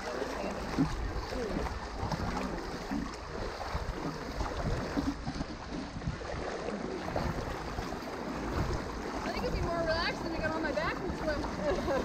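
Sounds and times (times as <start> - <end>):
water splashing around wading legs: 0.0 - 12.0.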